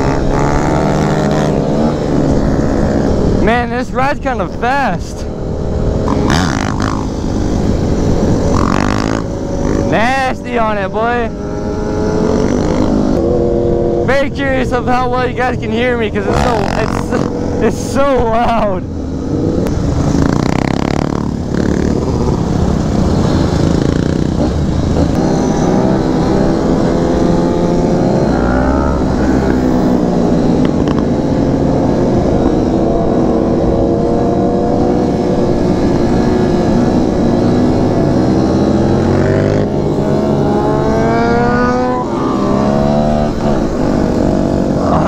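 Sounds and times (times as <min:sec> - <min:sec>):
motorcycle engine revving: 0:00.0 - 0:45.0
wind rushing on microphone: 0:00.0 - 0:45.0.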